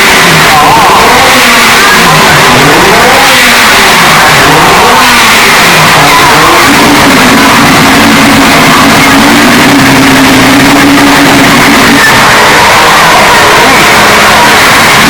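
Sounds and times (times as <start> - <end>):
rotary engine at high revs: 0.0 - 15.0.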